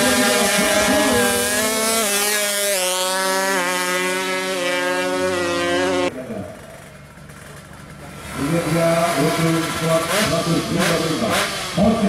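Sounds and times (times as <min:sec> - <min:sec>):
two-stroke engine at full throttle: 0:00.0 - 0:12.0.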